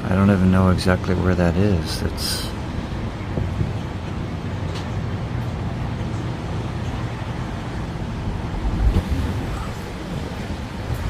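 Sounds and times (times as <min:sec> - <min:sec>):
wind buffeting microphone: 0:00.6 - 0:11.0.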